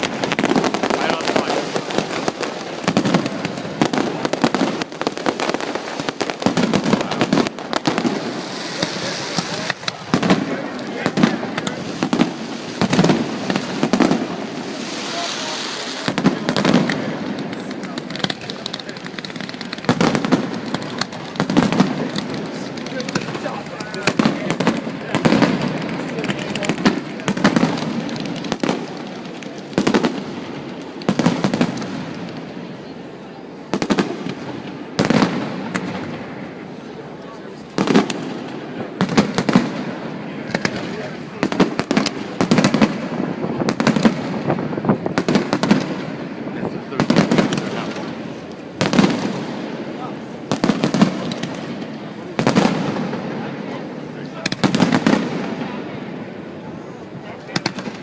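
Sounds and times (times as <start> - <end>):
fireworks popping and banging: 0.0 - 58.0.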